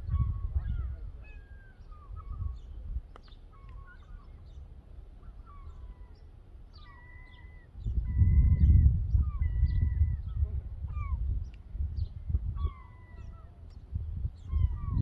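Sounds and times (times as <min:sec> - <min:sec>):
birds chirping and whistling: 0:00.0 - 0:04.6, 0:06.8 - 0:11.3, 0:12.0 - 0:15.0.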